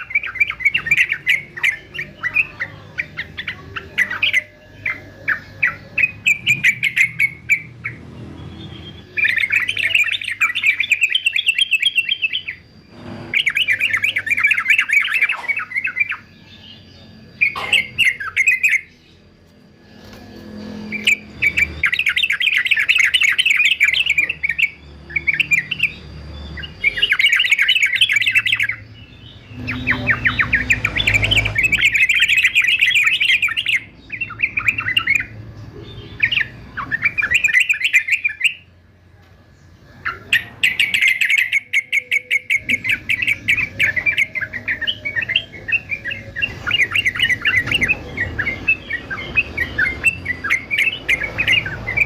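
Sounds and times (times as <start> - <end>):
bird chattering song: 0.0 - 38.8, 39.5 - 52.0.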